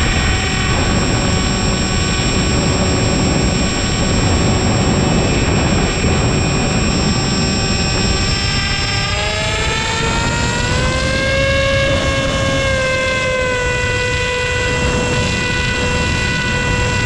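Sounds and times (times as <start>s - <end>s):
electric motor propeller whine: 0.0s - 17.0s
wind noise: 0.0s - 17.0s.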